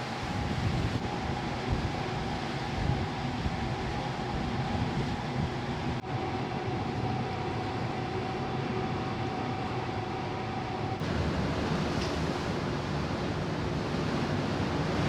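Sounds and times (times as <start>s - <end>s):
waves: 0.0s - 15.0s
wind: 0.0s - 15.0s.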